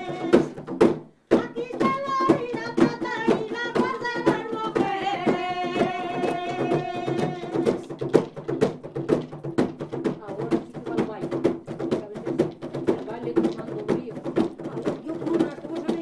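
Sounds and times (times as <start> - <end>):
person singing folk song: 0.0 - 8.1, 10.3 - 16.0
frame drum beat: 0.0 - 16.0.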